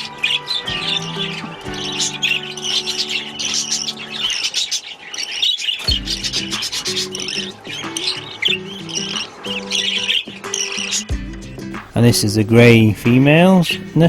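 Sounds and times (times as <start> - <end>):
background music with low notes: 0.0 - 4.9, 5.8 - 14.0
budgerigars chattering: 0.0 - 14.0.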